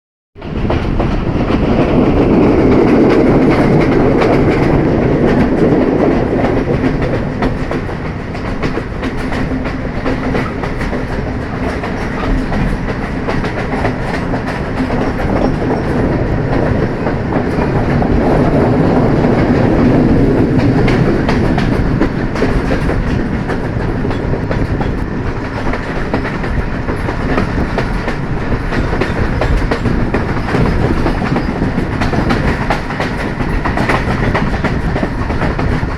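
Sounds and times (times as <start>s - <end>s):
train rumbling on track: 0.4s - 35.9s
wheels clicking over rail joints: 0.4s - 35.9s.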